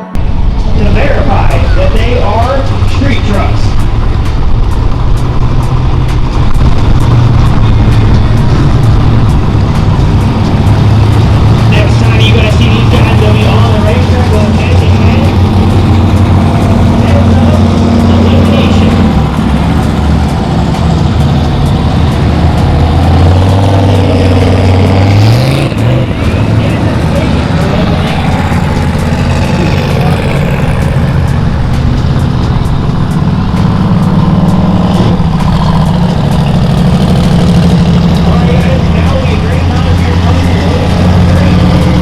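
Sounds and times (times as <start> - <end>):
truck engine rumbling: 0.0 - 42.0.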